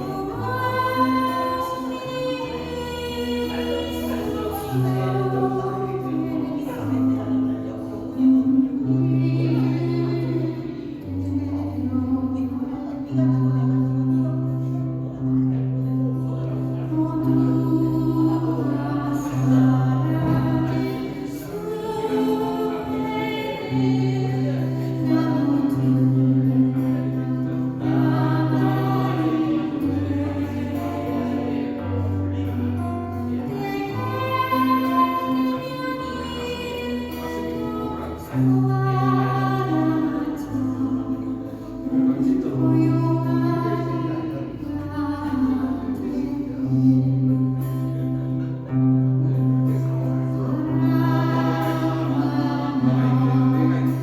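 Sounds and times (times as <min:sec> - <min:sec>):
woman singing a slow ballad: 0:00.0 - 0:54.0.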